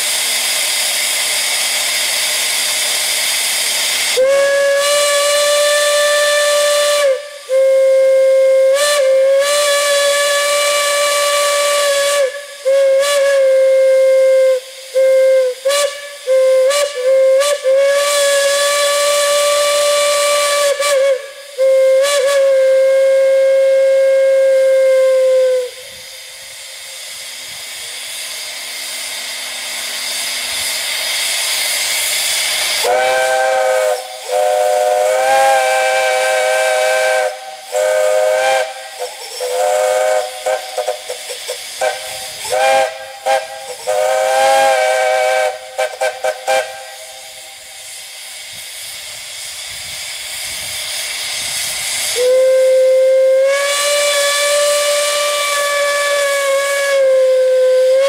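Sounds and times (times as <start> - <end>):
steam hissing: 0.0 - 58.0
steam whistle blasts: 3.2 - 58.0.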